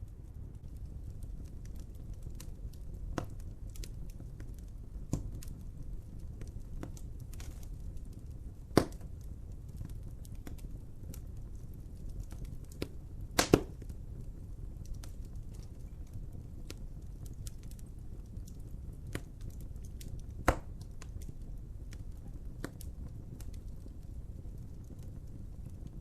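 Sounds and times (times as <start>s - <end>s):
fire popping: 0.0s - 26.0s
low steady rumble: 0.0s - 26.0s
wood fire crackling: 0.0s - 26.0s.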